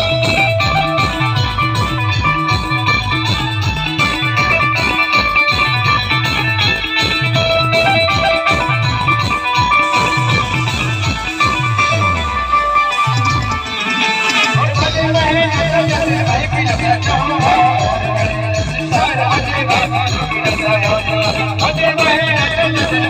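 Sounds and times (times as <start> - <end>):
fast drum beat: 0.0 - 23.0
plucked-string lead melody: 0.0 - 23.0
stepping bass line: 0.0 - 23.0.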